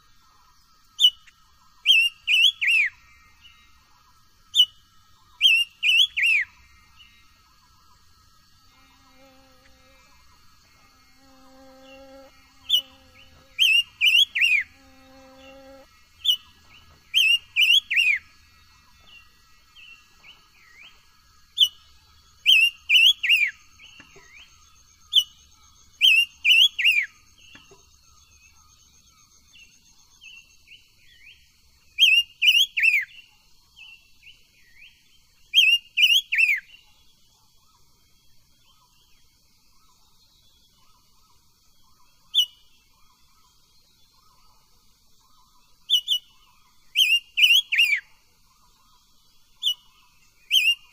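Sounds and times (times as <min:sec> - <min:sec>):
bird singing whistled notes: 0:00.9 - 0:08.0, 0:12.0 - 0:37.0, 0:38.6 - 0:50.9.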